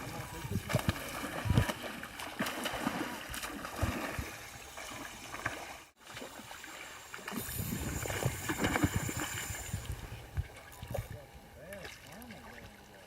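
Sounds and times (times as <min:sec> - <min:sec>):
shallow water splashing: 0:00.0 - 0:13.0.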